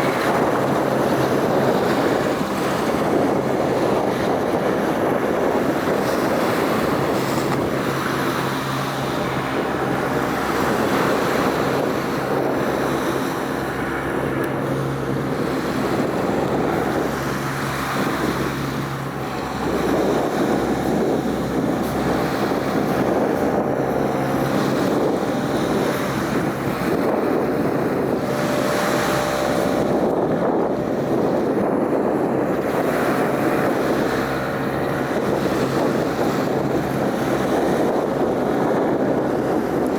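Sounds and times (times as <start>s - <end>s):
low engine hum: 0.0s - 39.9s
wash of open water: 0.0s - 39.9s
wind buffeting microphone: 0.0s - 39.9s.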